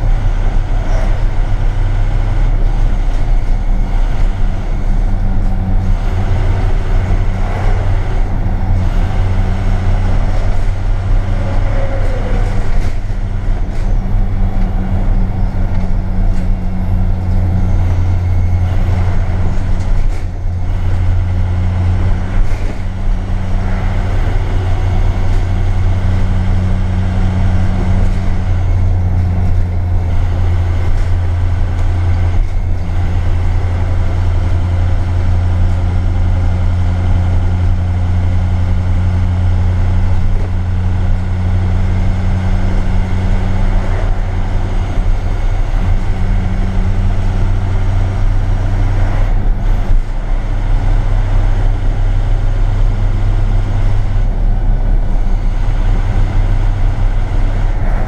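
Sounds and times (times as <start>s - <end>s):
low engine drone: 0.0s - 58.0s
road noise: 0.0s - 58.0s.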